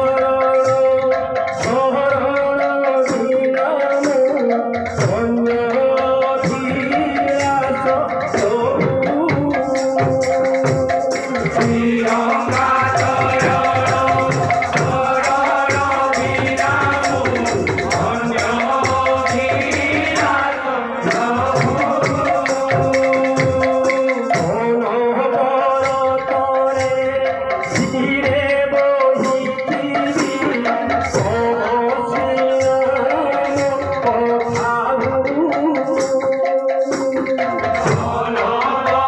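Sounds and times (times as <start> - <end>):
hand drums beating: 0.0 - 39.0.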